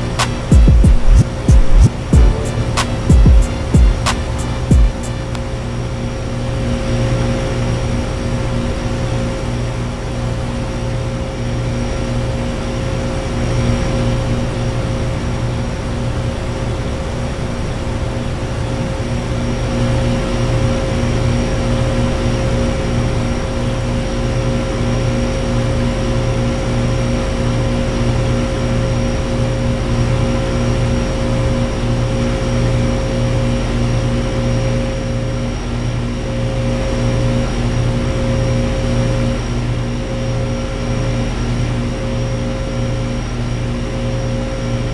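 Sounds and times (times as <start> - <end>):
compressor hum: 0.0 - 44.9
condenser fans rushing: 0.0 - 44.9.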